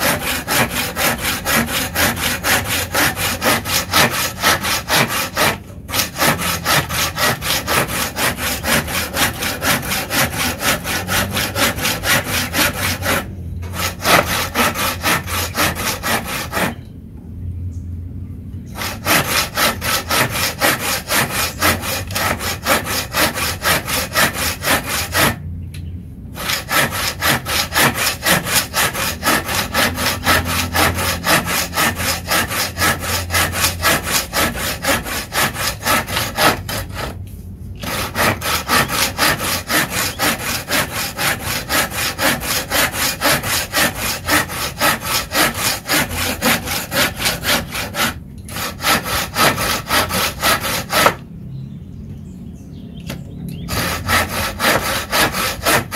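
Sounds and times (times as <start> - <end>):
hand saw cutting wood: 0.0 - 16.8, 18.7 - 25.4, 26.4 - 37.2, 37.8 - 51.2, 53.6 - 55.9.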